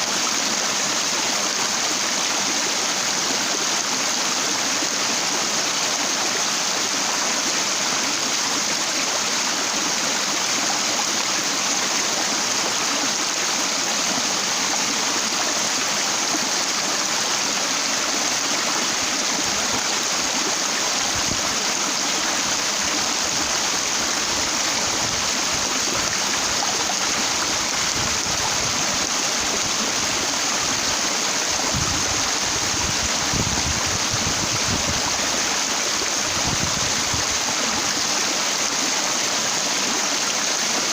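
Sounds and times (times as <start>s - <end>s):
stream water rushing over rocks: 0.0s - 40.9s.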